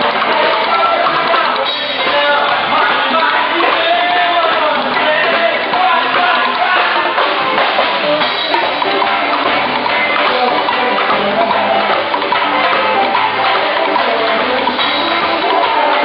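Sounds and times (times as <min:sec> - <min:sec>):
drum kit and hand percussion: 0:00.0 - 0:16.0
live band playing: 0:00.0 - 0:16.0.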